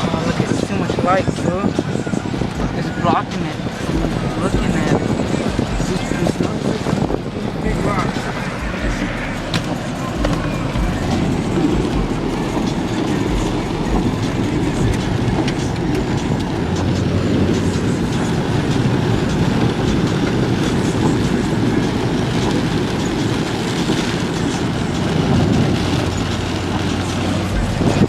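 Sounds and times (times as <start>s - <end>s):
rain ticking: 0.0s - 28.0s
vehicle rumble and rattle: 0.0s - 28.0s.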